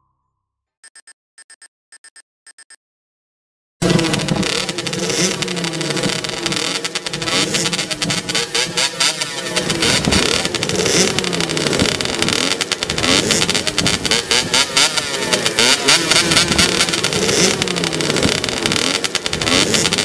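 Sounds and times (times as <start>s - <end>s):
motocross bike engine revving: 3.8s - 20.0s.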